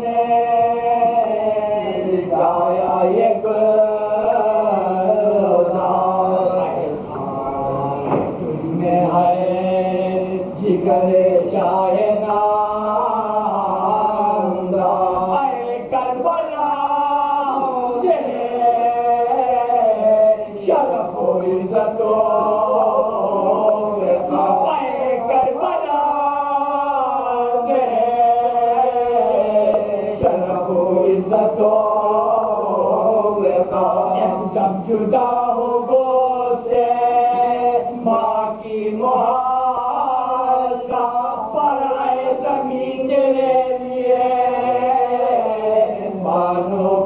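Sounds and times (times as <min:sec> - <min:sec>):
men chanting together: 0:00.0 - 0:47.0.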